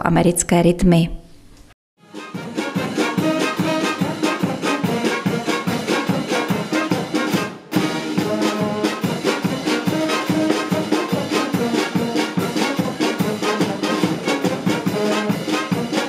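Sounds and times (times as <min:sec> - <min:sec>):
brass band playing: 0:02.0 - 0:16.0.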